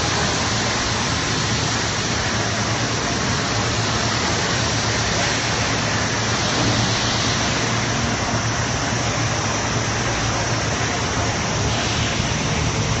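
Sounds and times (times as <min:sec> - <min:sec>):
industrial machinery hissing: 0:00.0 - 0:13.0
machinery low hum: 0:00.0 - 0:13.0.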